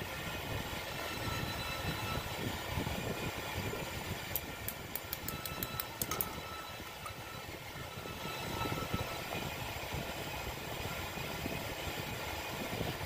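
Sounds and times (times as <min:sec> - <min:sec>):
machine running with faint whine: 0:00.0 - 0:13.0.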